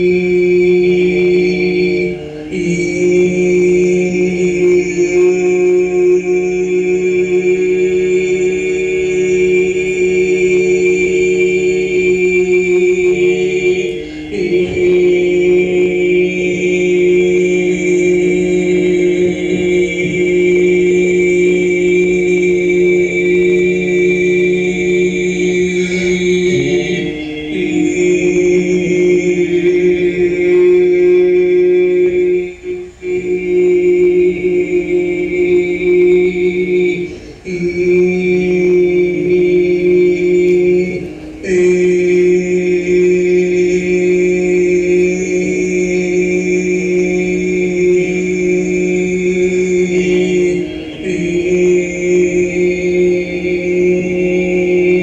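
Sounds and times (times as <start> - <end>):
voices chanting droning notes: 0.0 - 55.0.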